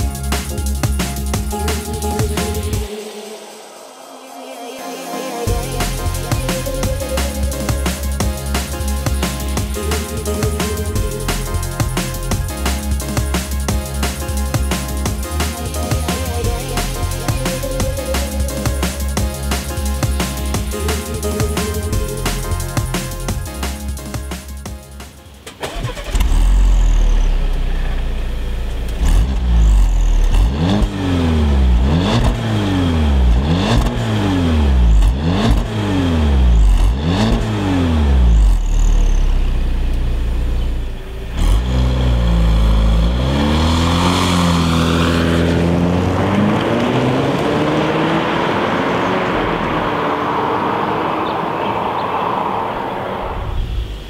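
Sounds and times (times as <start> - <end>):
car engine revving: 5.4 - 24.6, 25.2 - 54.0
car engine accelerating: 5.5 - 24.6, 25.2 - 54.0.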